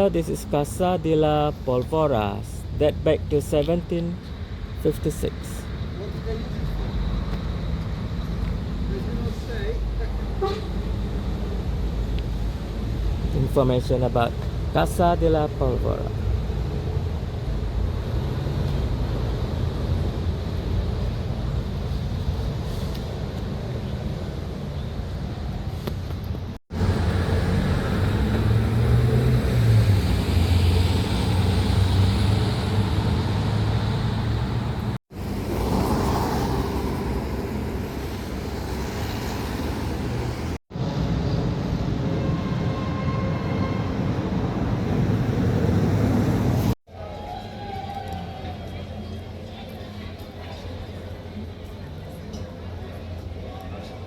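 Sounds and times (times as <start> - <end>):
city street rumble: 0.0 - 54.0.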